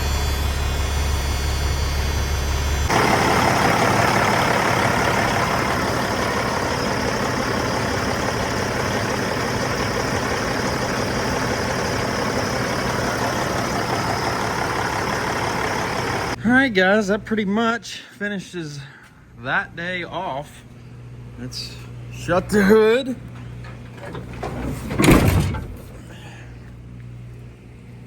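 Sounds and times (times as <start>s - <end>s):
diesel engine idling: 0.0s - 17.0s, 20.5s - 28.0s.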